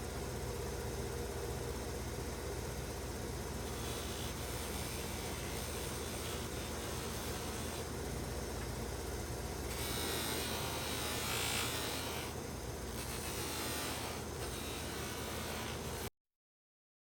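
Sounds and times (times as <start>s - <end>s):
small electric motor humming: 0.0s - 16.1s.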